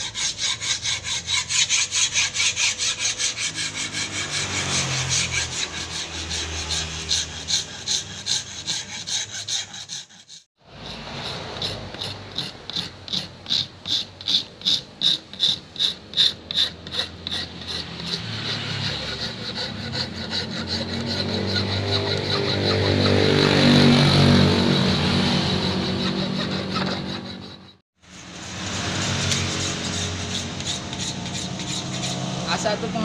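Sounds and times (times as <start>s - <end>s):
hand file rasping: 0.0s - 33.0s.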